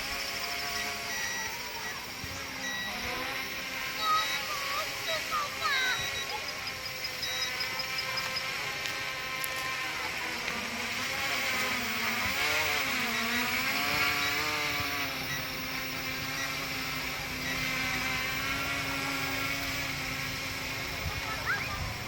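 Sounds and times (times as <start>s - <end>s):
quadcopter drone buzzing: 0.0s - 22.0s.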